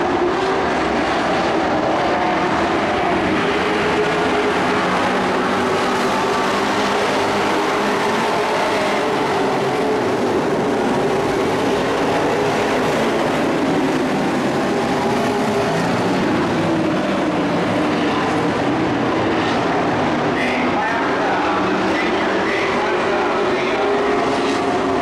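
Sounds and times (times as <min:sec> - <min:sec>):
race truck engines: 0:00.0 - 0:25.0.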